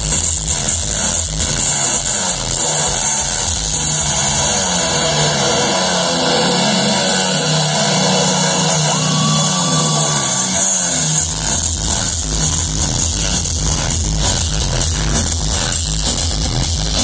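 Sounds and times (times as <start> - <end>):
motorcycle engines running hard: 0.0 - 17.0.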